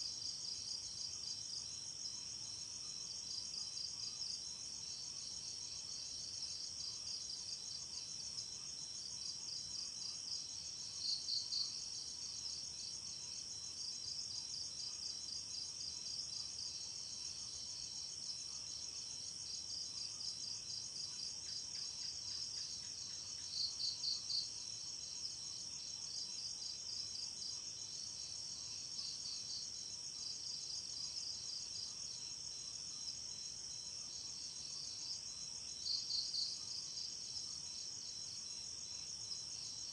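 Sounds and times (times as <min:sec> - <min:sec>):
crickets chirping chorus: 0:00.0 - 0:39.9.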